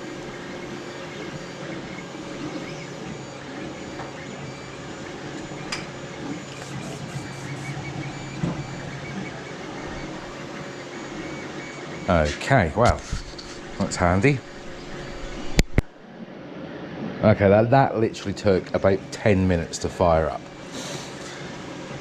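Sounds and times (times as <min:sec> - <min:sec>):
resin printer humming: 0:00.0 - 0:22.0.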